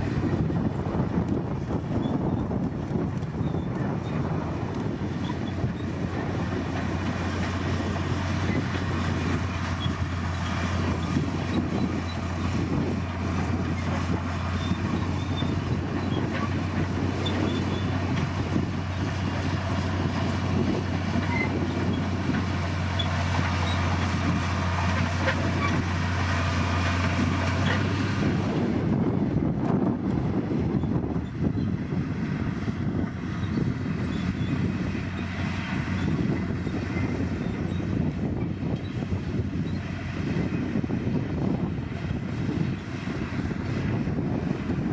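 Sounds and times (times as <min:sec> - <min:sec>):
bulldozer diesel engine droning: 0:00.0 - 0:44.9
mechanical rumble: 0:00.0 - 0:44.9.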